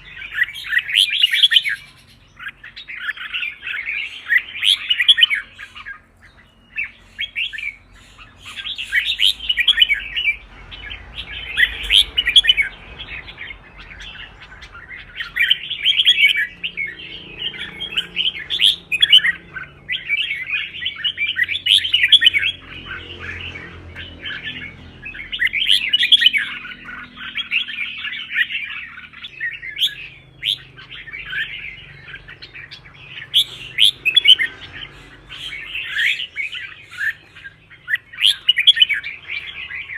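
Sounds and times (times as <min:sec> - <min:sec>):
bulbul chirping and warbling: 0:00.0 - 0:39.9.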